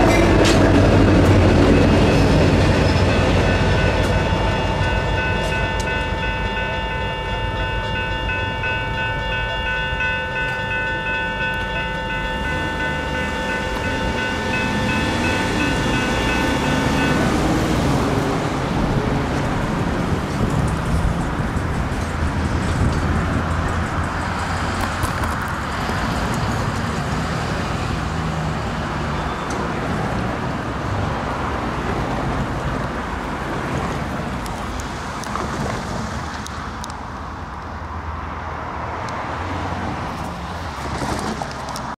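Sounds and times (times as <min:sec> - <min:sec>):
diesel locomotive engines rumbling: 0:00.0 - 0:42.0.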